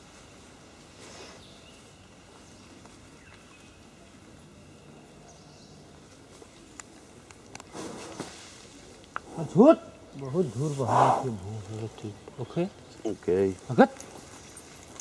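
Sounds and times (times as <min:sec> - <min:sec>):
soft rustle: 0:00.0 - 0:04.9, 0:05.9 - 0:09.4, 0:10.1 - 0:15.0
faint background hiss: 0:00.0 - 0:15.0.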